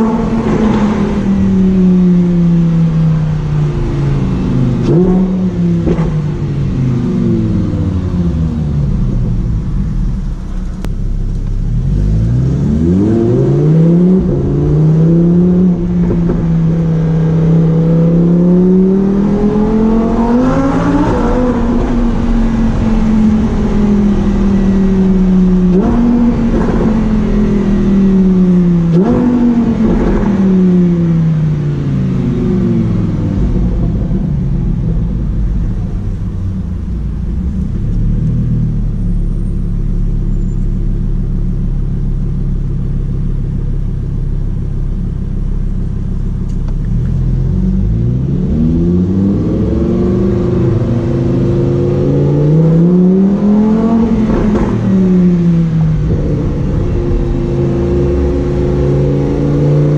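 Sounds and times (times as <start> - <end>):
sports car engine revving: 0.0 - 59.9.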